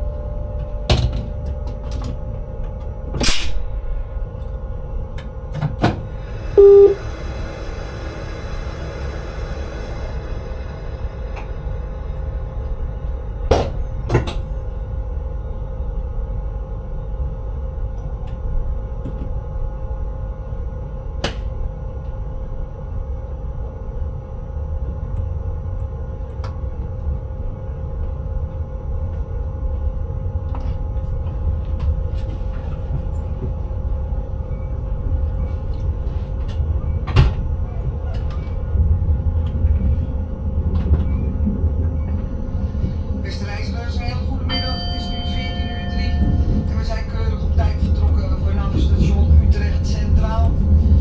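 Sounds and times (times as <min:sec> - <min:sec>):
electrical hum: 0:00.0 - 0:51.0
train low rumble: 0:00.0 - 0:51.0.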